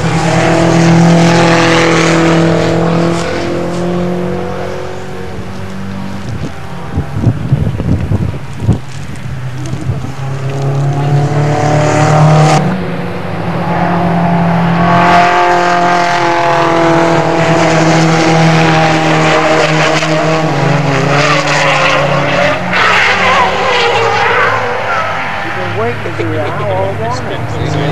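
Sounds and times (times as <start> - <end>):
racing car engines: 0.0 - 27.9.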